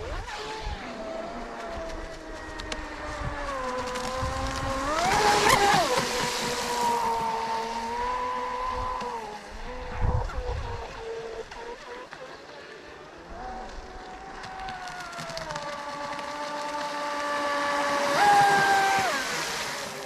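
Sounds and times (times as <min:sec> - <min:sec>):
rc boat electric motor whining: 0:00.0 - 0:20.0.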